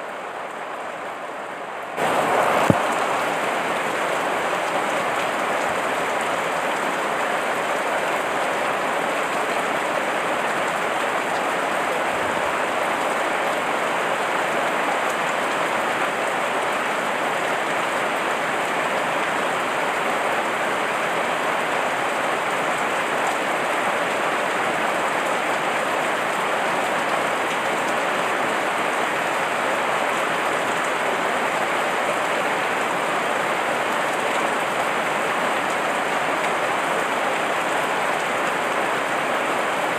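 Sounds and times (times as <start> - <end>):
heavy rain pattering on leaves: 0.0 - 39.9.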